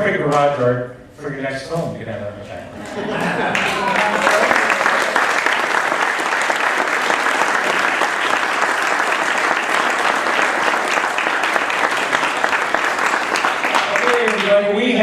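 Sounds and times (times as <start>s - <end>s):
audience applauding: 2.7s - 14.9s.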